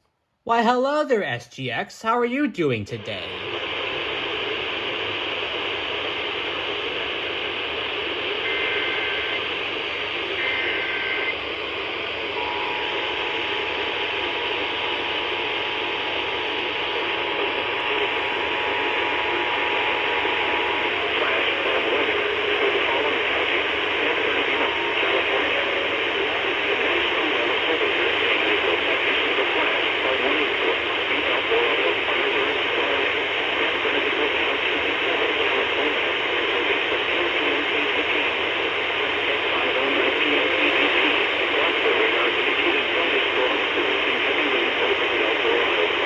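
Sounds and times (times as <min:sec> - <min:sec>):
heavy radio static: 0:00.5 - 0:46.0.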